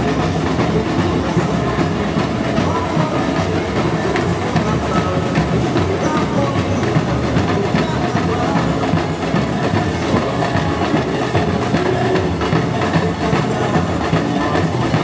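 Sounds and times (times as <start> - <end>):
crowd noise: 0.0 - 15.0
percussion drumming: 0.0 - 15.0.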